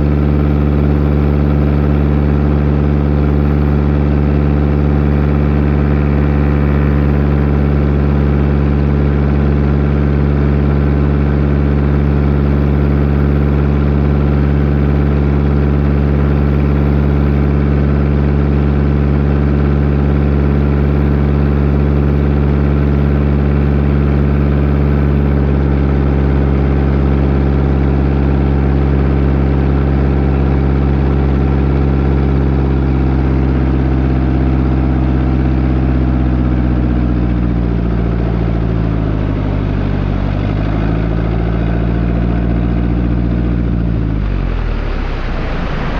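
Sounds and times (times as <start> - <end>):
plane engine and propeller: 0.0 - 45.9.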